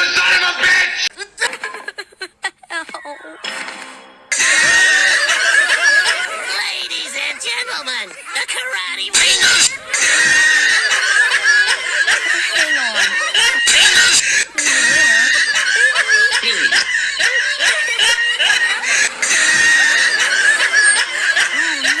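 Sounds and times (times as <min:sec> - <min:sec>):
cartoon voices laughing: 0:04.3 - 0:22.0.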